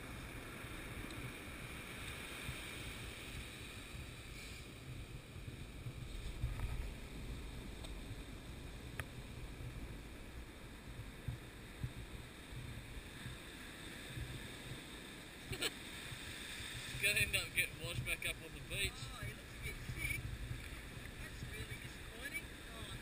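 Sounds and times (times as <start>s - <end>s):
surf washing up sand: 0.0s - 23.0s
wind rumbling on microphone: 0.0s - 23.0s.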